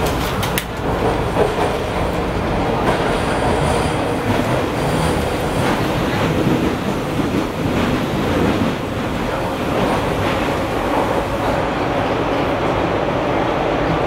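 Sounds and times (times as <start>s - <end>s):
subway wheels rumbling: 0.0s - 14.0s.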